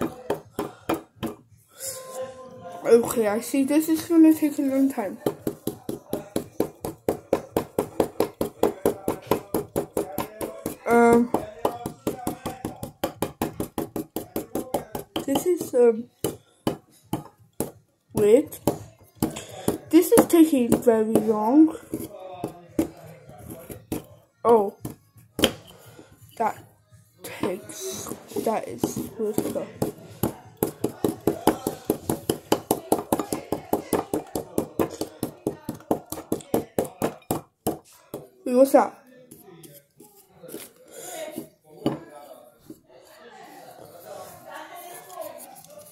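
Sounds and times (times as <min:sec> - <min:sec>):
small chisel tapping and scraping plaster: 0:00.0 - 0:01.5, 0:03.9 - 0:26.5, 0:27.2 - 0:38.5, 0:39.3 - 0:42.8.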